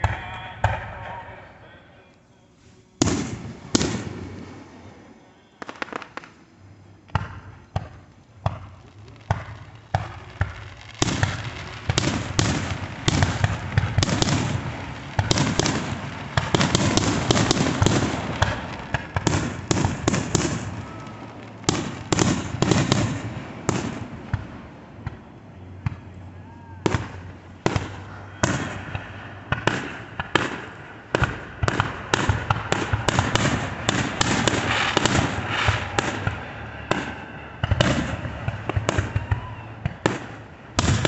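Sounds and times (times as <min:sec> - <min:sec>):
fireworks bangs and crackling: 0:00.0 - 0:01.8, 0:02.8 - 0:41.0.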